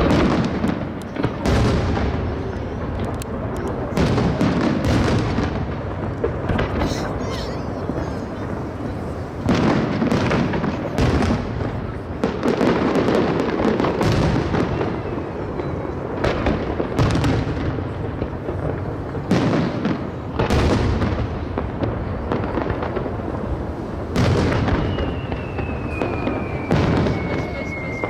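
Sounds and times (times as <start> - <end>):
firework crackling: 0.0 - 28.0.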